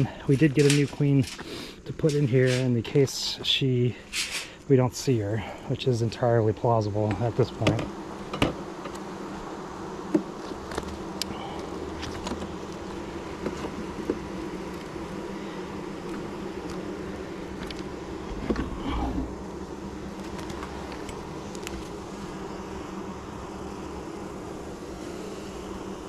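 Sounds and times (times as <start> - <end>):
honeybees droning: 0.0 - 26.0.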